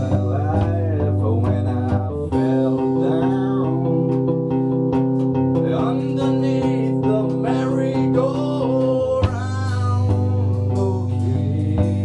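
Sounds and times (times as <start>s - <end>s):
electric guitar chords: 0.0s - 12.0s
man singing: 0.0s - 12.0s.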